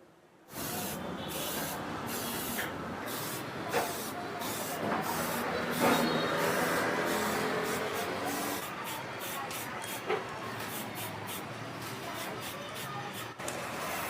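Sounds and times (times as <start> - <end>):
spray paint hissing: 0.5 - 14.0.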